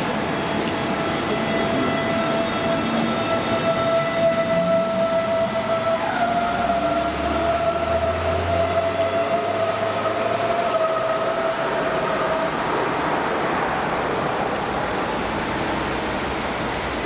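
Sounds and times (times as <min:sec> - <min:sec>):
electric train whine: 0:00.0 - 0:17.0
heavy rain hissing: 0:00.0 - 0:17.0
low train rumble: 0:00.0 - 0:17.0.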